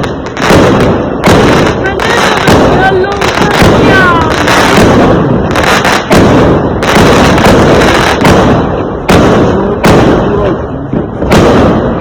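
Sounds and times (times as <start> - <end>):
fireworks crackling: 0.0 - 12.0
loud firework bangs: 0.0 - 12.0.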